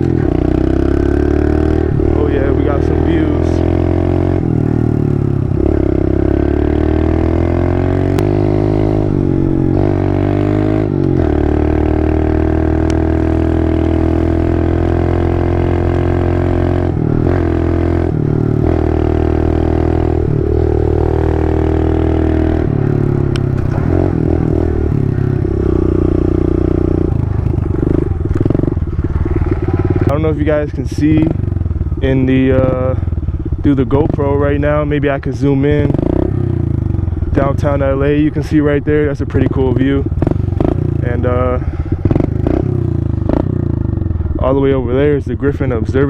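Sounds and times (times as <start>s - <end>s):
motorbike engine revving: 0.0s - 46.0s.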